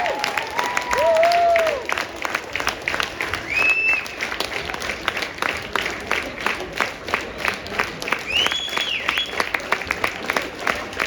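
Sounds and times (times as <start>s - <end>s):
audience clapping rhythmically: 0.0s - 11.0s.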